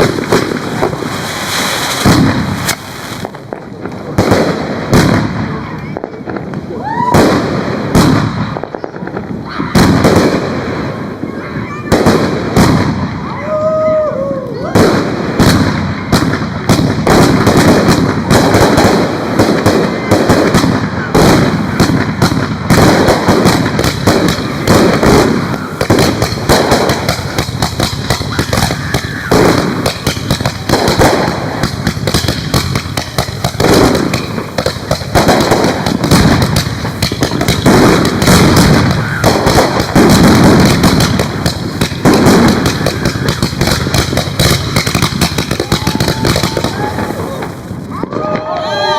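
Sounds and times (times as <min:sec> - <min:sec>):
fireworks bangs and pops: 0:00.0 - 0:48.9.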